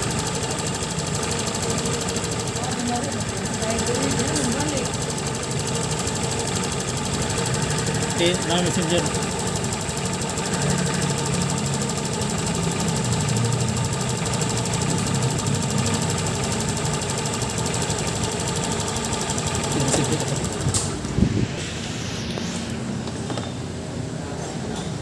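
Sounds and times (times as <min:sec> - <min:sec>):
scooter engine idling: 0:00.0 - 0:21.6.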